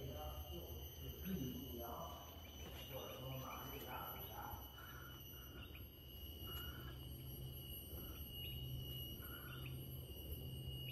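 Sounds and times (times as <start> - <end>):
insects whining: 0.0 - 10.9
short insect chirps: 0.0 - 10.9.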